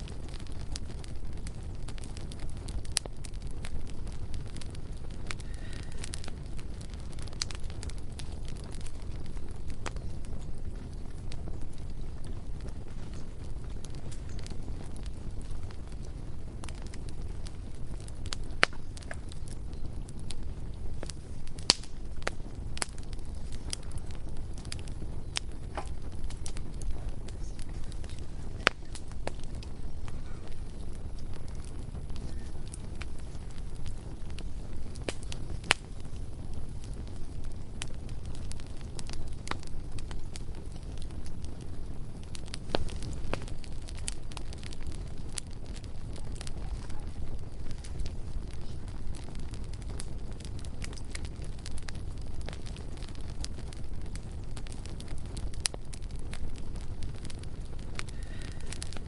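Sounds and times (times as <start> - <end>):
bonfire crackling and popping: 0.0 - 59.0
low steady rumble: 0.0 - 59.0.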